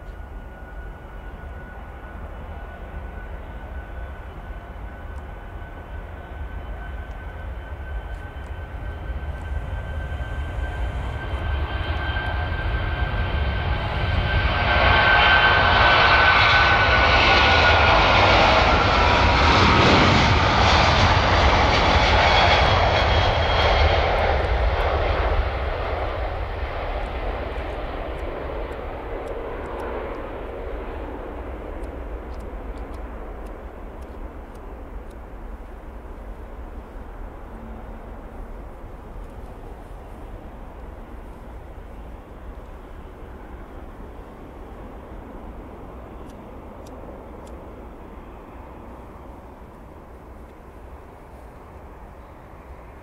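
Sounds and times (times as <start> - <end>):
jet aircraft taking off: 0.0 - 53.0.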